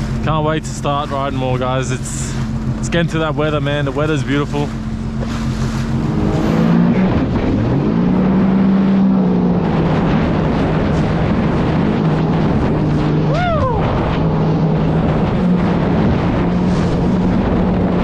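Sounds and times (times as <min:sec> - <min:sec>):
jet ski engine running: 0:00.0 - 0:18.0
rush of wind and water: 0:00.0 - 0:18.0.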